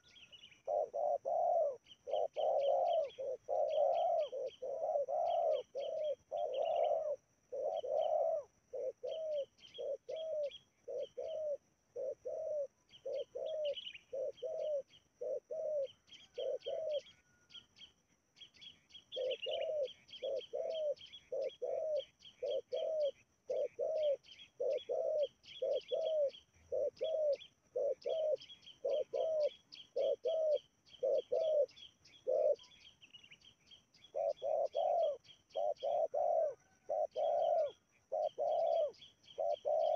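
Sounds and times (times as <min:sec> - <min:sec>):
doves cooing: 0:00.0 - 0:17.6, 0:19.1 - 0:32.9, 0:34.0 - 0:39.9
birds chirping: 0:00.0 - 0:39.9.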